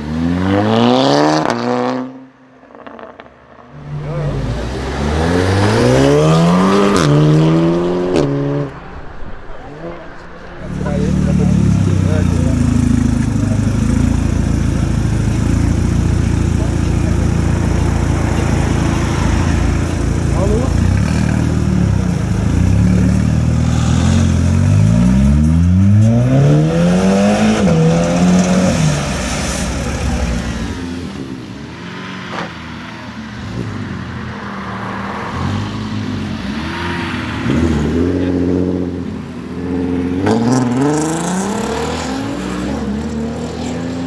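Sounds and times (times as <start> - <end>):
car engine revving: 2.8 - 44.0.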